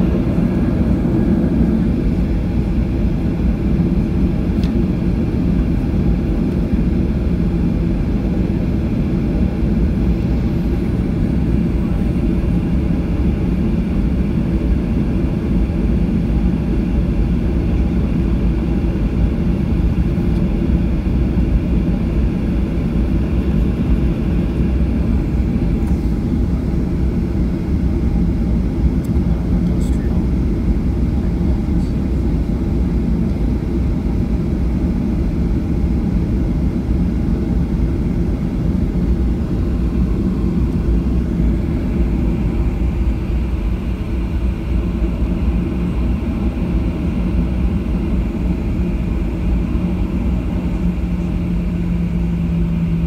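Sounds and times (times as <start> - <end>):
jet engines in airliner cabin: 0.0 - 53.0.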